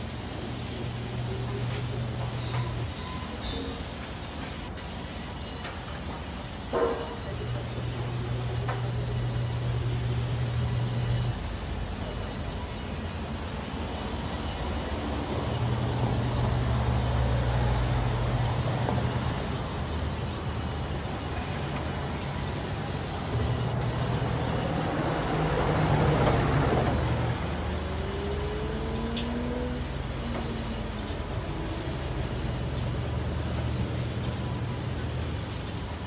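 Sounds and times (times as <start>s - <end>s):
band saw humming: 0.0s - 35.7s.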